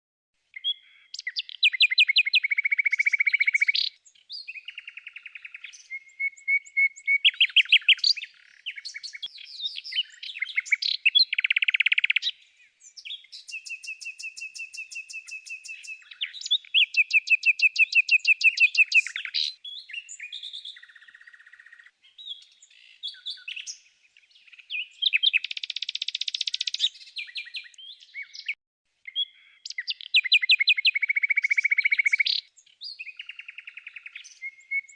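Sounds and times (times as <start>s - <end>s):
songbird chirping trills and whistles: 0.4s - 34.9s.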